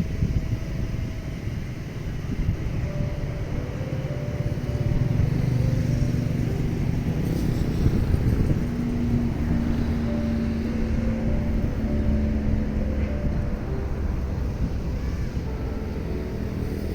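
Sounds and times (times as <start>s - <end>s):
low engine rumble: 0.0s - 16.9s.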